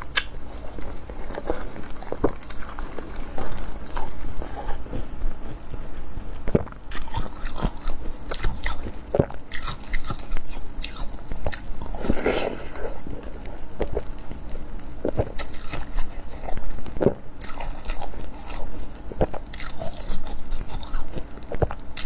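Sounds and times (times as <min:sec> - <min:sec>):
ice being crunched and chewed: 0:00.0 - 0:22.0.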